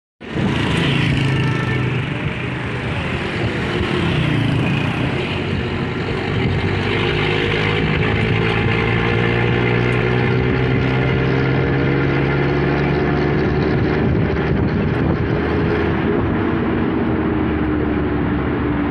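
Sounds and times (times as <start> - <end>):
road and wind noise: 0.2 - 18.9
vehicle engine hum: 0.2 - 18.9.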